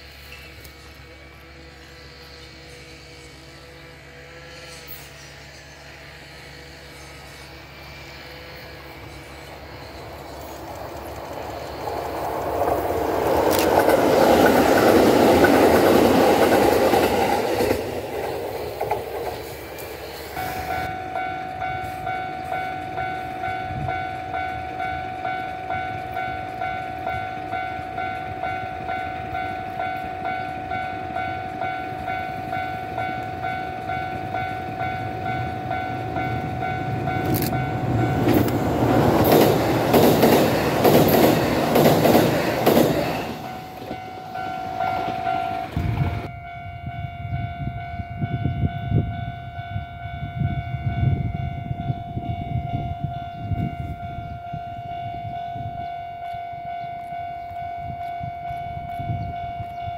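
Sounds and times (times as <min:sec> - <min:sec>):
electric train passing: 0:00.0 - 0:59.9
level-crossing alarm dinging: 0:04.0 - 0:59.9.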